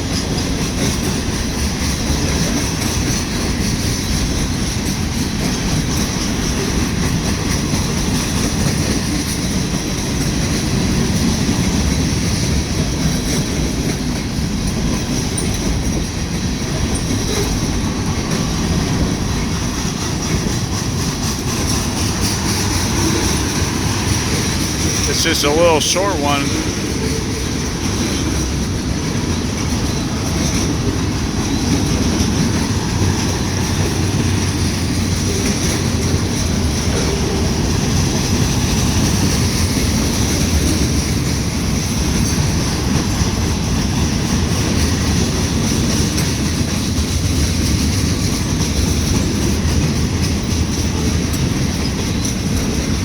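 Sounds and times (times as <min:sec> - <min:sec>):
freight train wheels rumbling: 0:00.0 - 0:53.0.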